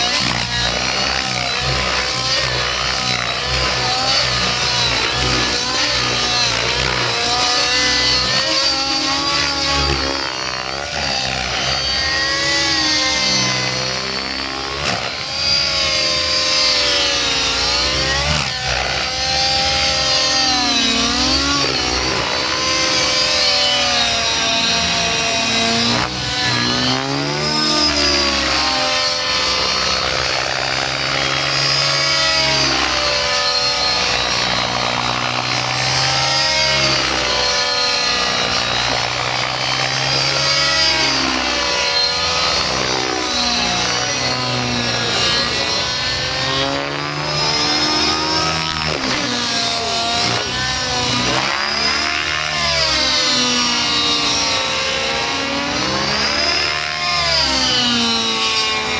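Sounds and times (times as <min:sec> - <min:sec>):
model helicopter engine and rotors: 0:00.0 - 0:58.9.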